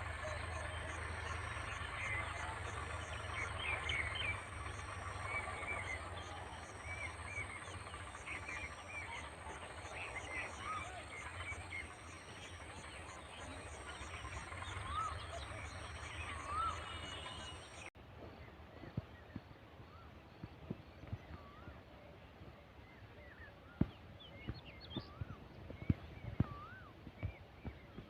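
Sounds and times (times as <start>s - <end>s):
birds chirping: 0.0s - 17.9s, 18.8s - 28.0s
low steady rumble: 0.0s - 28.0s.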